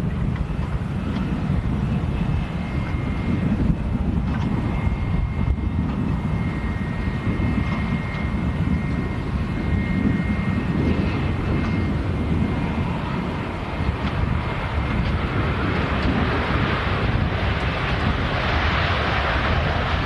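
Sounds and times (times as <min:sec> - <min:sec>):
jet plane flying past: 0:00.0 - 0:20.0.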